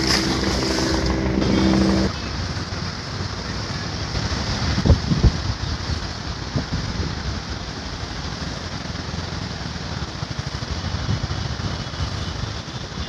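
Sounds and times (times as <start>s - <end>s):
flood water rushing: 0.0s - 11.6s.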